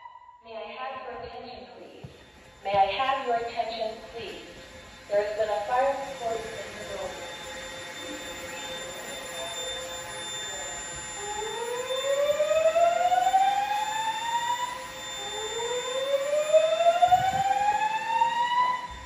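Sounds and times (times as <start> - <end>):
fire alarm rising whoops: 0.0 - 0.4, 2.1 - 19.0.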